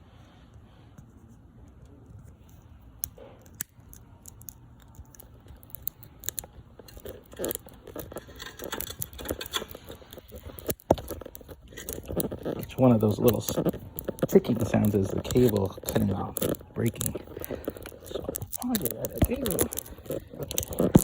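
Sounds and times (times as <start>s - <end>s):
wire strands snapping: 2.4s - 21.0s.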